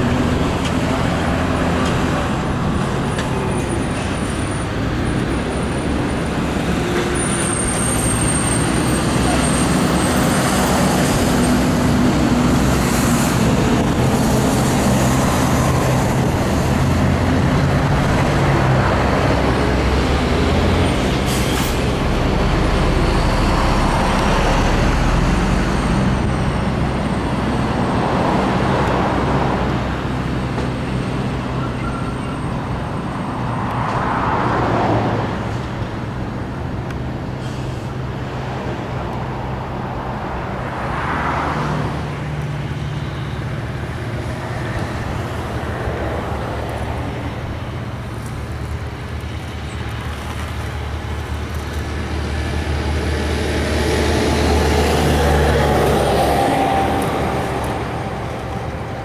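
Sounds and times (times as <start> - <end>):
diesel truck engines: 0.0 - 59.0
vehicles passing by: 0.0 - 59.0.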